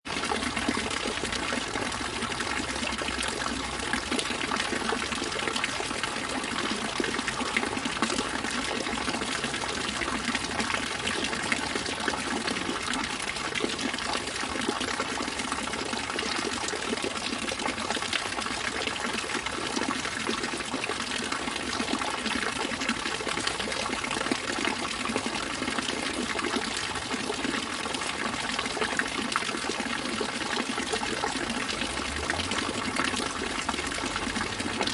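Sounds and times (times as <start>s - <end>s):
water fountain splashing: 0.1s - 34.9s.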